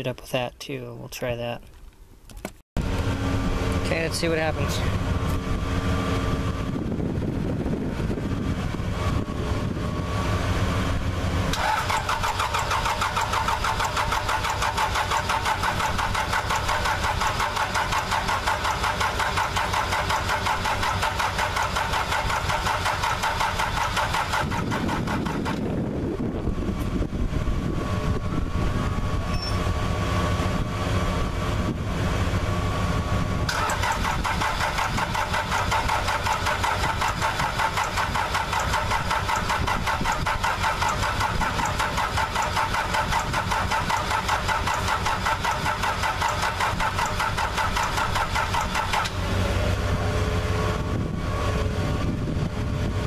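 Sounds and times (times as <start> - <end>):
diesel engine cranking: 2.4 - 53.0.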